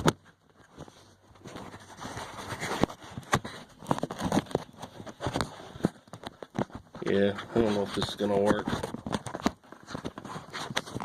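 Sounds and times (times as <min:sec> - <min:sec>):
phone handling rustling: 0:00.0 - 0:07.1, 0:08.2 - 0:11.0.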